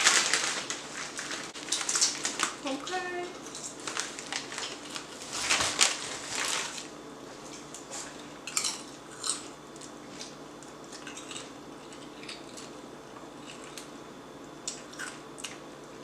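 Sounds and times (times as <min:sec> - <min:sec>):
snack packaging crackling: 0:00.0 - 0:07.7, 0:08.5 - 0:15.7.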